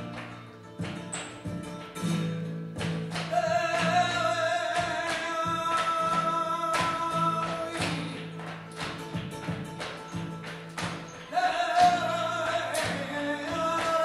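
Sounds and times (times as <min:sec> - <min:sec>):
guitar: 0:00.0 - 0:14.0.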